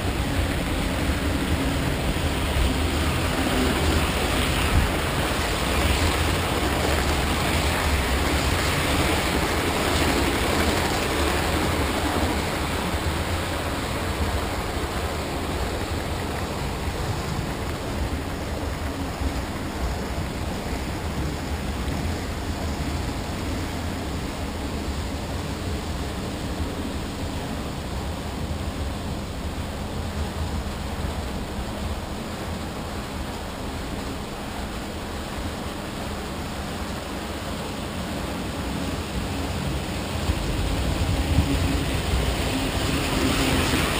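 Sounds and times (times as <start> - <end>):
model train wheels rumbling: 0.0 - 43.9.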